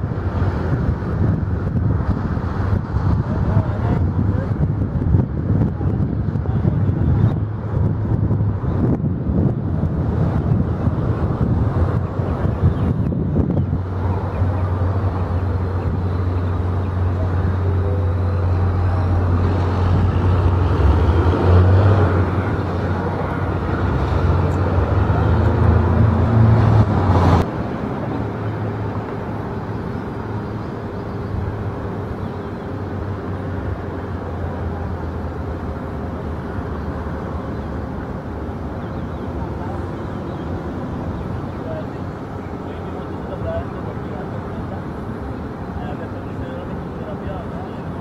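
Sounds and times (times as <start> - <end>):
airport background rumble: 0.0 - 48.0
jet engines rumbling: 0.0 - 48.0.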